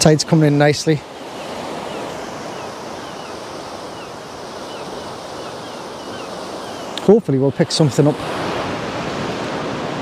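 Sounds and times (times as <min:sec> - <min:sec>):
waves breaking on shore: 0:00.0 - 0:10.0.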